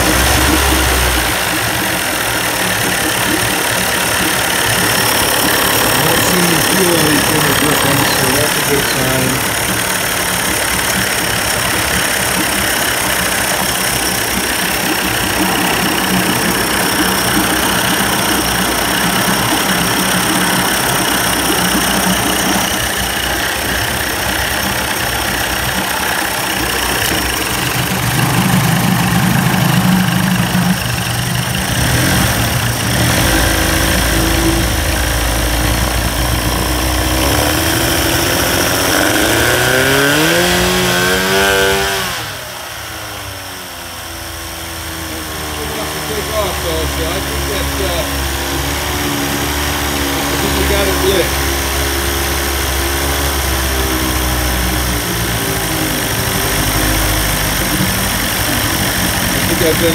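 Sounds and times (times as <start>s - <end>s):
two-stroke outboard engine running: 0.0s - 59.9s.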